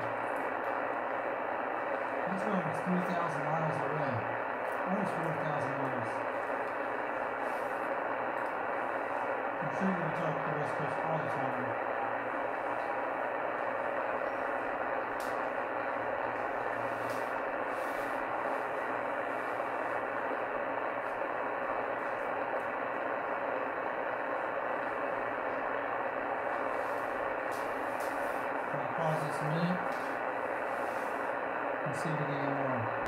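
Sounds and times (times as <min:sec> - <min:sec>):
shortwave receiver static hiss: 0:00.0 - 0:33.0.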